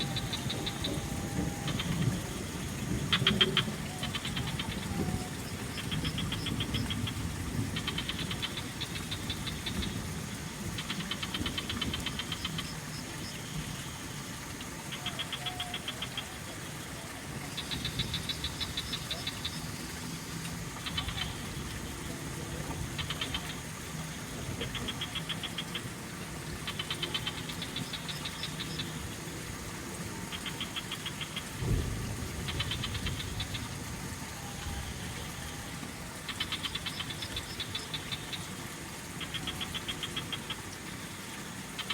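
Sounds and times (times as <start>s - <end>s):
frogs calling in chorus: 0.0s - 41.9s
rough rattling croak: 0.0s - 41.9s.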